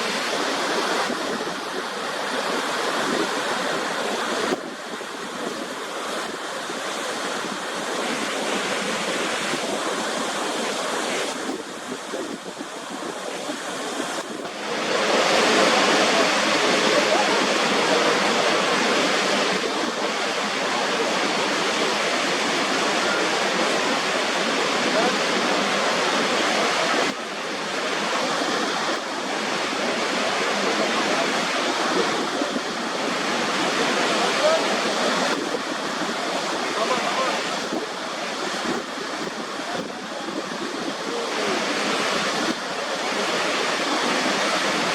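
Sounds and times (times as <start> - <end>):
waterfall rushing: 0.0 - 44.9
wind on microphone: 0.0 - 44.9.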